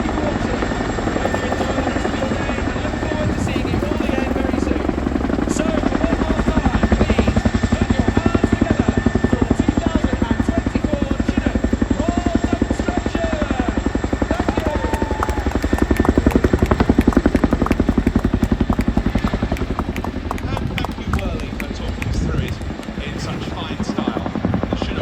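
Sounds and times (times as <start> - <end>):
helicopter high whine: 0.0 - 25.0
helicopter rotors beating: 0.0 - 25.0.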